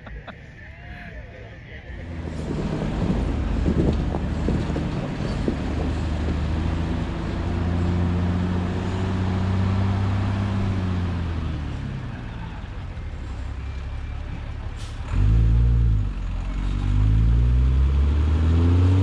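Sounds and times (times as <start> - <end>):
diesel engine labouring: 0.0 - 19.0.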